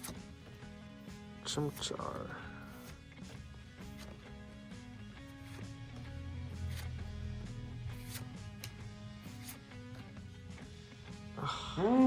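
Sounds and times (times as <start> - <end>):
quiet guitar music: 0.0 - 12.0.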